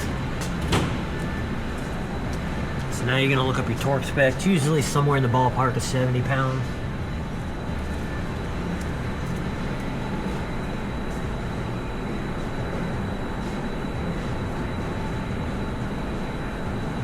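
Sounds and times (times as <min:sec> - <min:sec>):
high-pitched whine: 0:00.0 - 0:17.0
low rumbling machine: 0:00.0 - 0:17.0.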